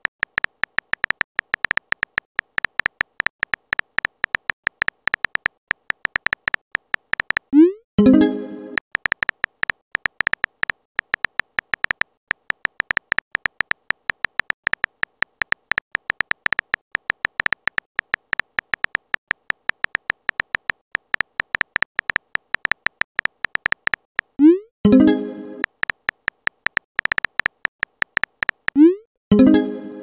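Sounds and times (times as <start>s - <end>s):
electronic typing blips: 0.0s - 29.5s.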